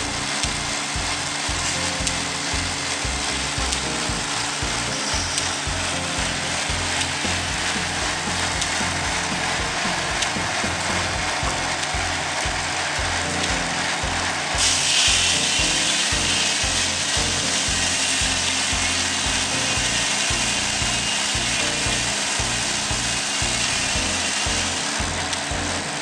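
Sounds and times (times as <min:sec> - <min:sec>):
saw cutting log: 0:00.0 - 0:26.0
sawmill running: 0:00.0 - 0:26.0.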